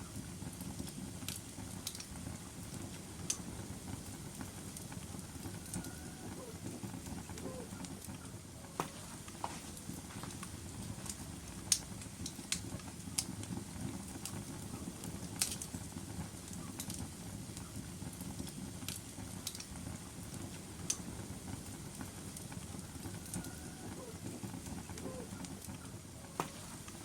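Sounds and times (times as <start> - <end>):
fire crackles and pops: 0.0 - 27.0
logs burning in fireplace: 0.0 - 27.0.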